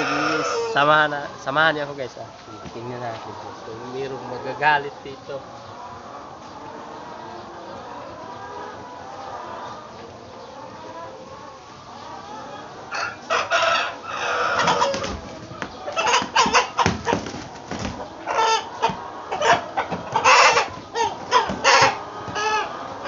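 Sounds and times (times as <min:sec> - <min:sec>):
chickens squawking: 0:00.0 - 0:23.0.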